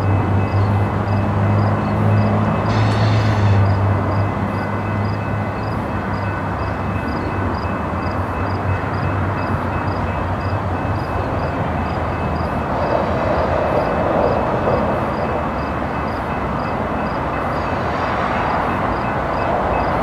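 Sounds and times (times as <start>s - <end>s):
locomotive engines droning: 0.0s - 20.0s
wheels rumbling on rail: 0.0s - 20.0s.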